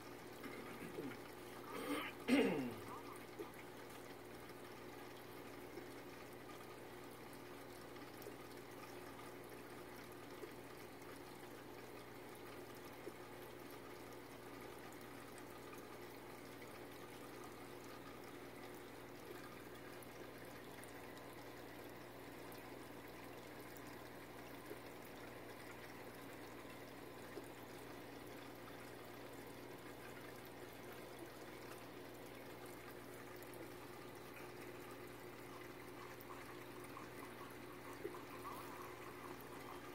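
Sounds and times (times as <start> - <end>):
low steady hum: 0.0 - 39.9
trickle of running water: 0.0 - 39.9.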